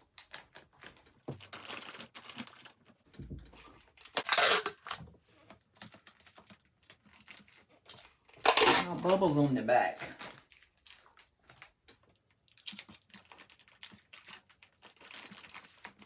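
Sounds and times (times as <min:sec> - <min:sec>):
plastic packaging crinkling: 0:00.0 - 0:03.1, 0:03.9 - 0:05.0, 0:05.6 - 0:16.0.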